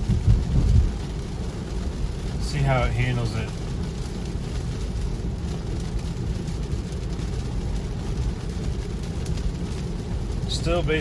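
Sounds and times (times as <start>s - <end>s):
tyre noise on wet road: 0.0s - 11.0s.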